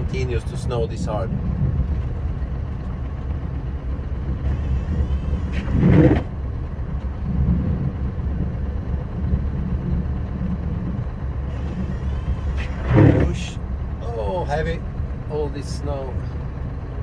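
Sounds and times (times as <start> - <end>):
truck diesel engine drone: 0.0 - 17.0.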